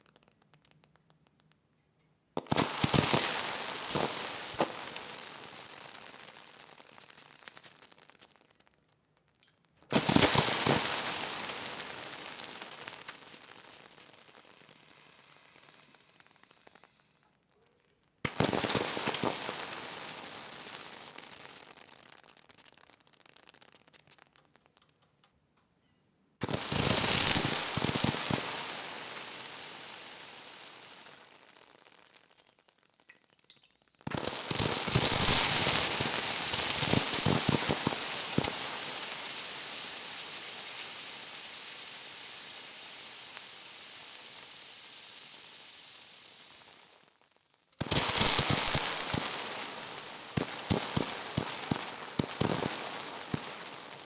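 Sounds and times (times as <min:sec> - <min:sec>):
water sizzling on hot surface: 0:02.4 - 0:17.3, 0:18.2 - 0:25.1, 0:26.4 - 0:54.0.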